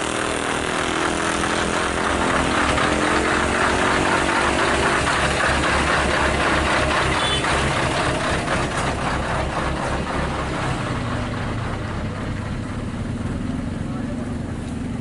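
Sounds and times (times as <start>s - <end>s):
heavy diesel engine pulsing: 0.0s - 15.0s.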